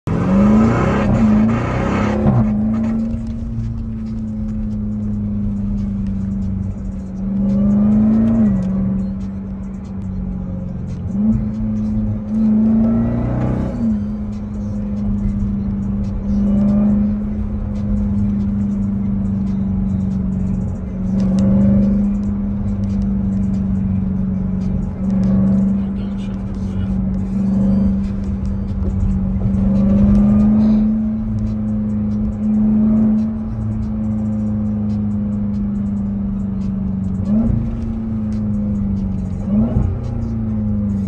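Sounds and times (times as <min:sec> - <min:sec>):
car engine accelerating through gears: 0:00.0 - 0:41.0.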